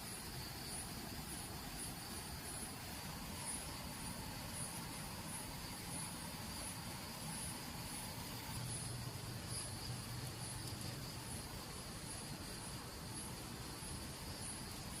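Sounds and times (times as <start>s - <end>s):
insects trilling: 0.0s - 15.0s
low steady rumble: 0.0s - 15.0s
pulsing insect chirp: 0.0s - 15.0s.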